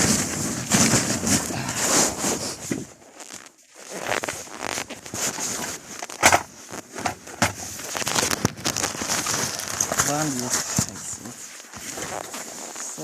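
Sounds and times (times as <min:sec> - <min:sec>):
rustling and crackling handling: 0:00.0 - 0:13.0.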